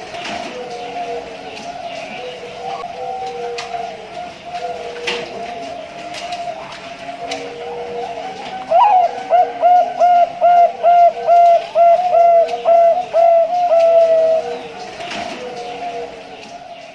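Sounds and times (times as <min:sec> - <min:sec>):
dove cooing: 0:00.0 - 0:16.9.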